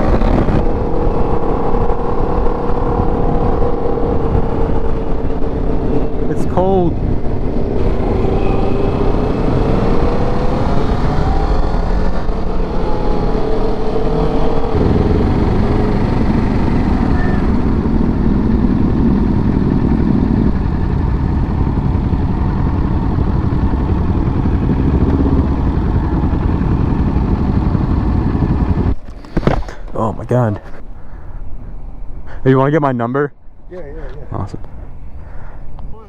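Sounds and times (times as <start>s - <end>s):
motorcycle engine running: 0.0s - 30.8s
wind rush: 0.0s - 32.4s.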